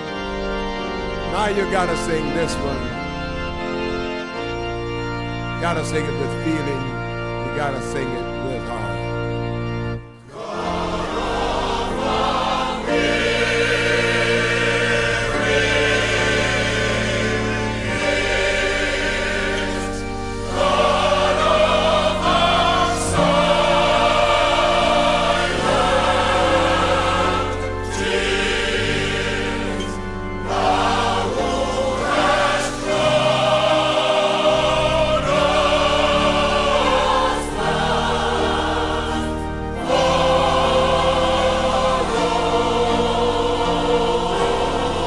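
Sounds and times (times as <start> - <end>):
choir singing gospel song: 1.3 - 3.0, 10.2 - 45.0.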